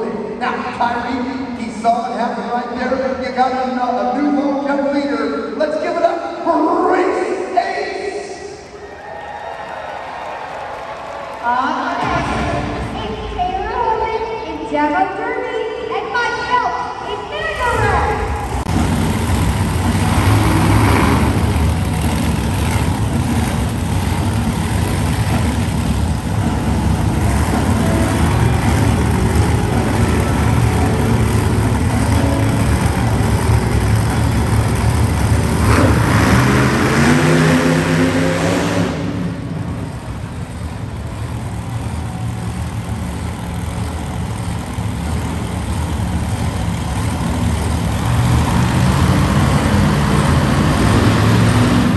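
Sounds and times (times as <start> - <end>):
monster truck engines revving: 9.9 - 51.9.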